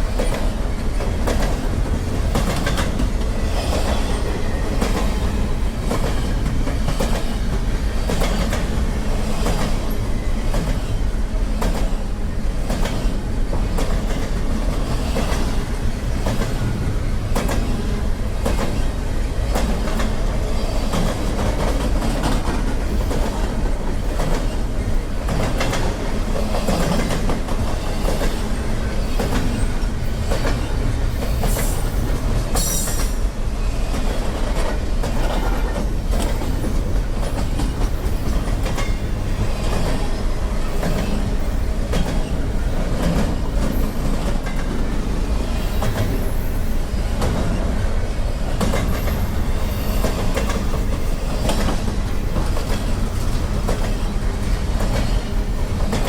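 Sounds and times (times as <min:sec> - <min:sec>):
train wheels clacking on rails: 0:00.0 - 0:56.0.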